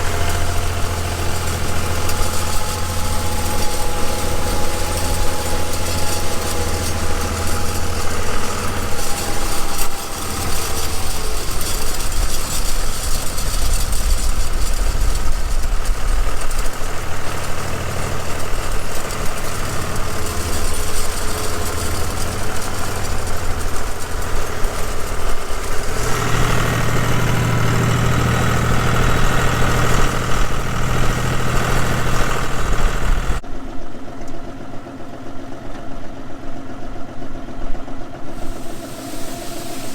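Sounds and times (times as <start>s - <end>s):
high engine whine: 0.0s - 33.4s, 38.2s - 39.9s
tractor diesel engine running: 0.0s - 33.4s, 38.1s - 39.9s.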